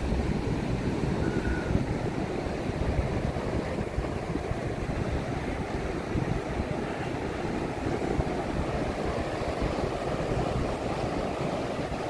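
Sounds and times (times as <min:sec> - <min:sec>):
ocean surf washing onto beach: 0:00.0 - 0:12.0
wind noise on microphone: 0:00.0 - 0:12.0.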